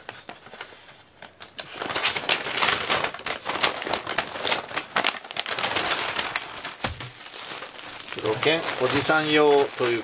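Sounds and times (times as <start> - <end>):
plastic packaging crinkling: 1.2 - 10.0.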